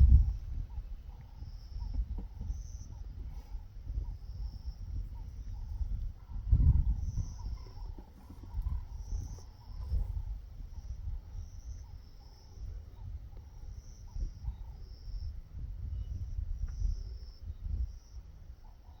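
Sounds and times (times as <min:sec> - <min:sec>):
low irregular rumble: 0:00.0 - 0:18.6
insects chirping: 0:00.0 - 0:19.0.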